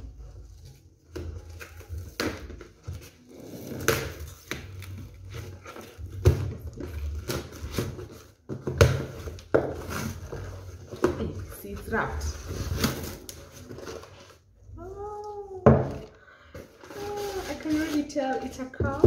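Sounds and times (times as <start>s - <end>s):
gift wrapping crinkling: 0.0s - 15.5s, 16.4s - 18.8s.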